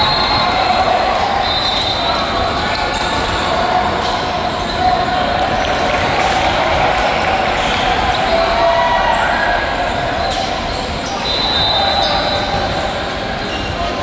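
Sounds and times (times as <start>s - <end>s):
crowd chatter in a hall: 0.0s - 14.0s.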